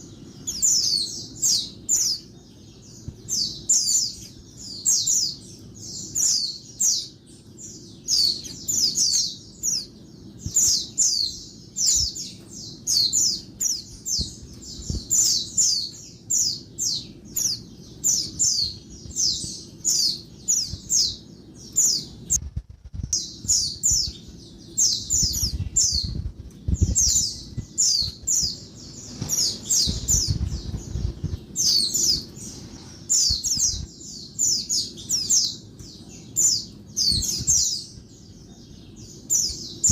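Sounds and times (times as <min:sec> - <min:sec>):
bird chirping high-pitched: 0:00.0 - 0:39.9.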